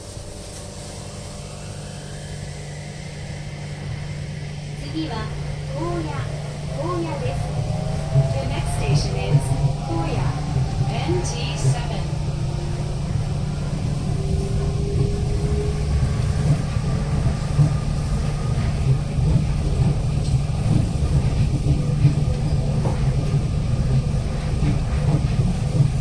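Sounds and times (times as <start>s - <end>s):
train low rumble: 0.0s - 26.0s.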